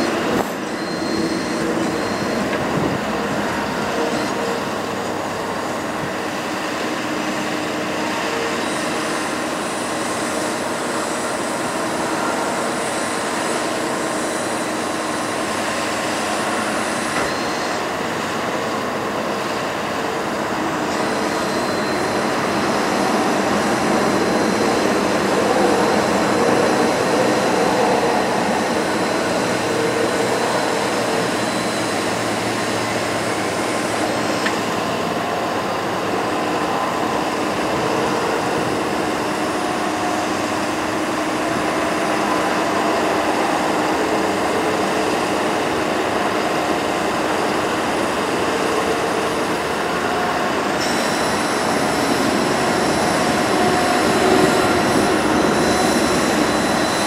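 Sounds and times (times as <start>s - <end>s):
hydraulic pump whine: 0.0s - 57.0s.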